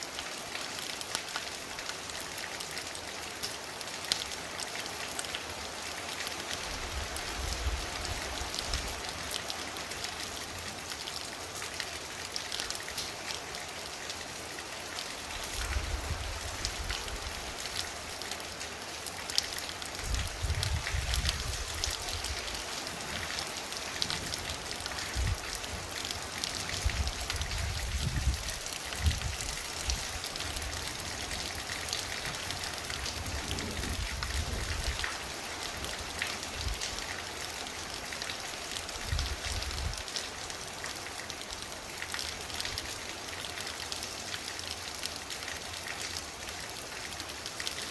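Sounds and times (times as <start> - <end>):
torrential rain pouring: 0.0 - 47.9.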